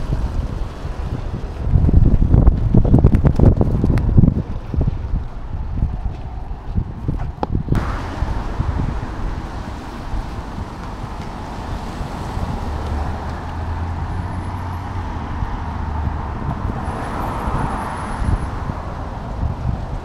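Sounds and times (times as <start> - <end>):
vehicles passing: 0.0 - 20.0
wind rumble on microphone: 0.0 - 20.0.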